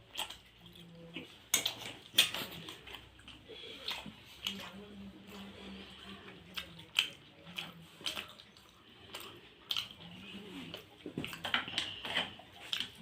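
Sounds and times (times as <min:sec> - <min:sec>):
wet chewing sounds: 0:00.0 - 0:13.0.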